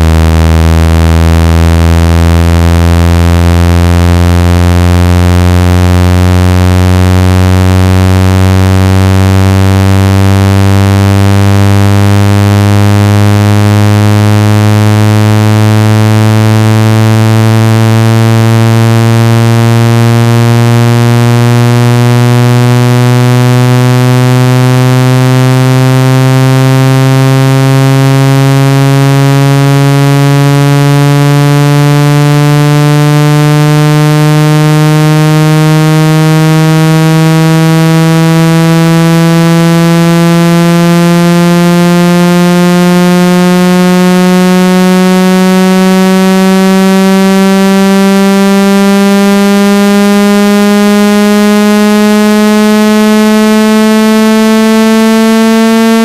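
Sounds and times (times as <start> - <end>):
buzzy rising synthetic tone: 0.0 - 56.0.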